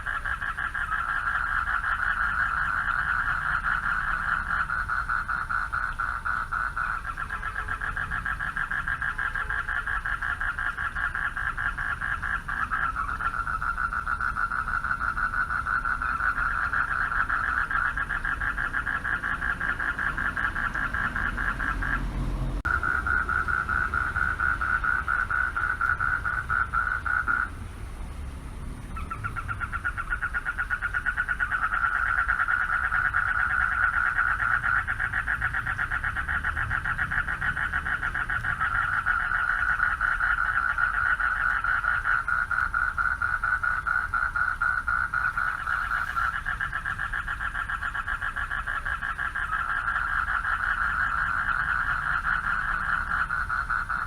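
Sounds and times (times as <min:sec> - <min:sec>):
frogs chorus trilling: 0:00.0 - 0:54.0.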